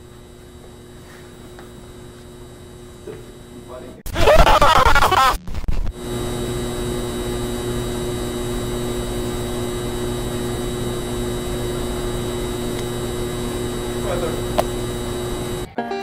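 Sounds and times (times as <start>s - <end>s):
electrical hum with hiss: 0.0s - 15.7s.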